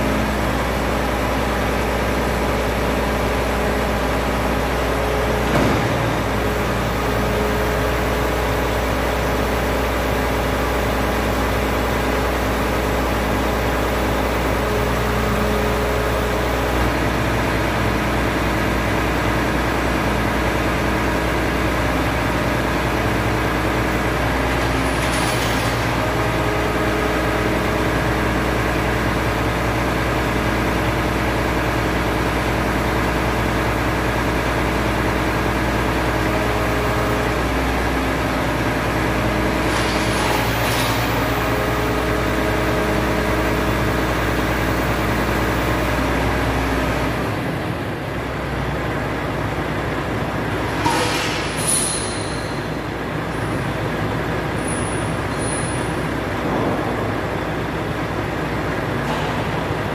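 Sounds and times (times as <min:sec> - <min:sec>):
truck engine running: 0:00.0 - 0:25.0, 0:25.6 - 0:59.9.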